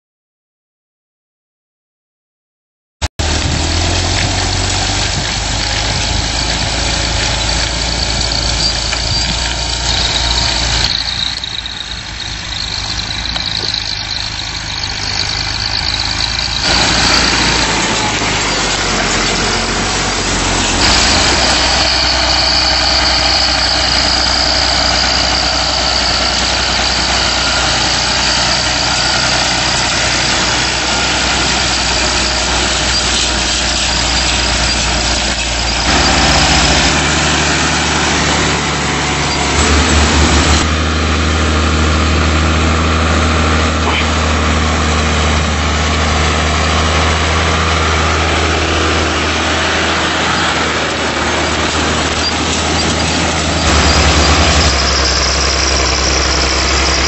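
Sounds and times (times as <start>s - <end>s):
tractor engine under load: 3.1s - 57.0s
plough rushing through soil: 3.2s - 57.0s.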